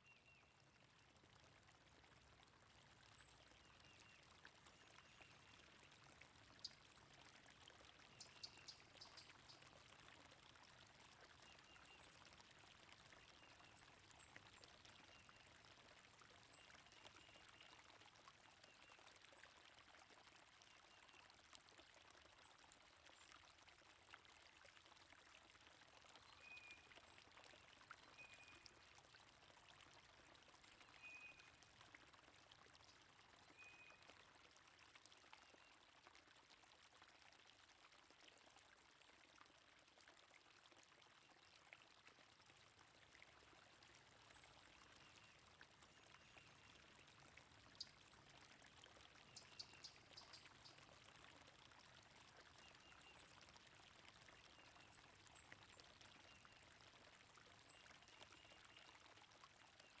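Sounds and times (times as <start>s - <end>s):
stream water flowing: 0.0s - 60.0s.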